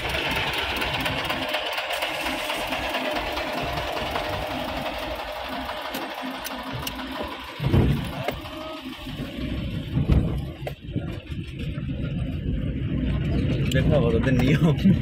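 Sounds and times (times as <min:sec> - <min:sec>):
small car engine running: 0:00.0 - 0:15.0.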